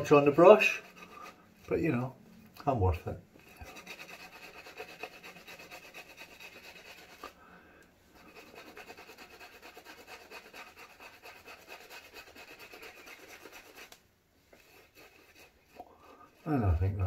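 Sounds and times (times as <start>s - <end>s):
shaving brush rubbing lather on stubble: 0.0s - 2.1s, 3.4s - 7.4s, 8.2s - 16.9s.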